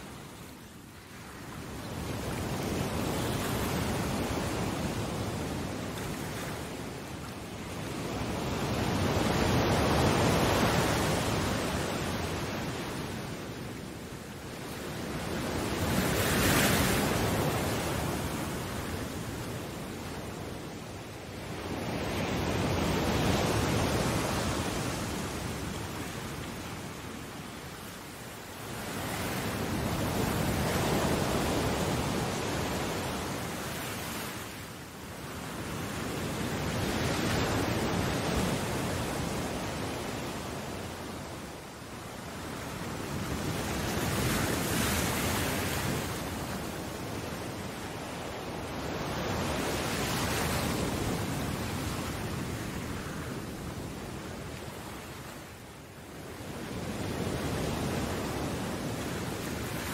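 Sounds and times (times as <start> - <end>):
sea waves surf: 0.0 - 59.9.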